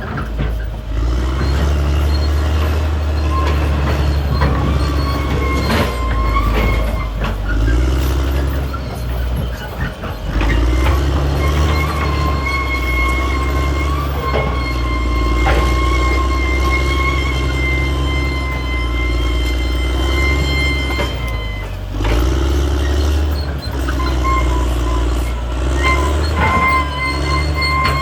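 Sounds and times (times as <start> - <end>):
bulldozer diesel engine: 0.0 - 28.0
steel tracks knocking: 0.0 - 28.0
thin high squeal: 1.6 - 28.0.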